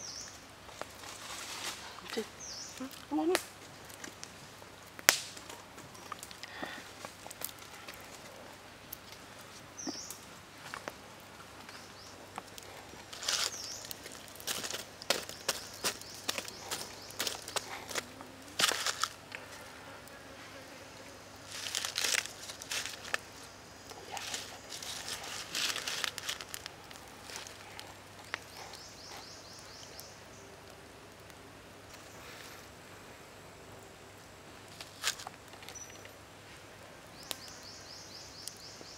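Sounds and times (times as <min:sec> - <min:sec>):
charcoal fire crackling and hissing: 0:00.0 - 0:38.9.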